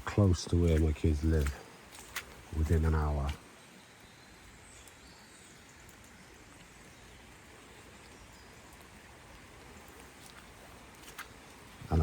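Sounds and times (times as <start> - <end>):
faint woodland background hiss: 0.0 - 12.0.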